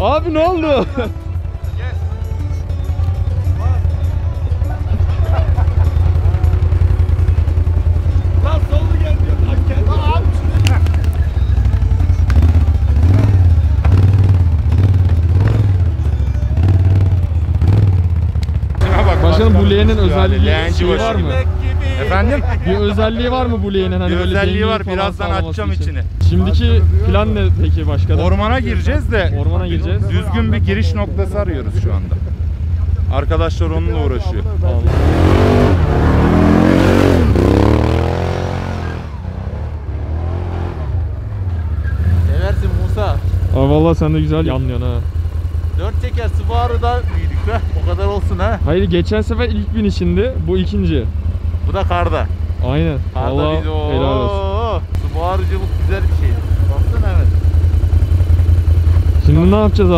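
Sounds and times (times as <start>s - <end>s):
quad bike engine revving: 2.9s - 59.9s.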